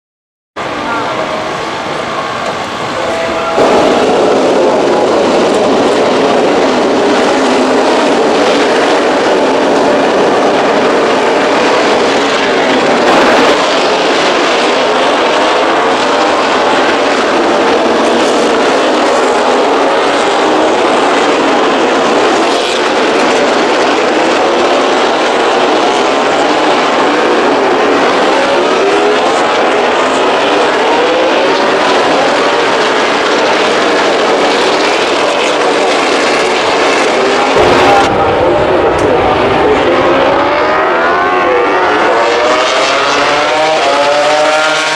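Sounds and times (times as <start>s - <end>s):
racing motorcycles at high revs: 0.9s - 44.9s.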